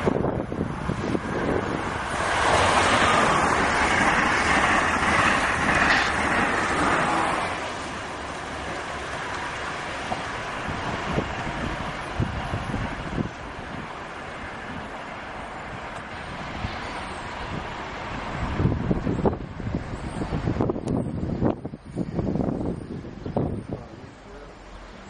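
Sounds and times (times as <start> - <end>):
wind on microphone: 0.0 - 24.3
high-speed train passing: 0.0 - 25.0.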